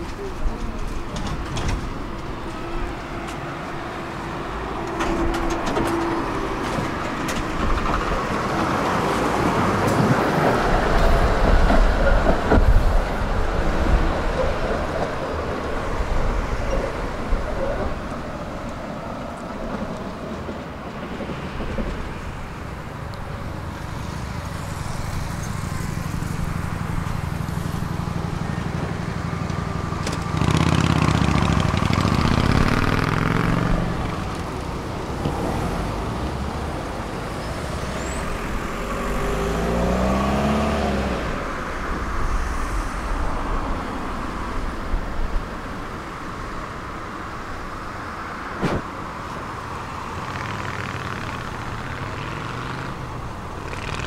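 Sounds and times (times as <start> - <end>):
tram wheels rumbling: 0.0 - 54.0.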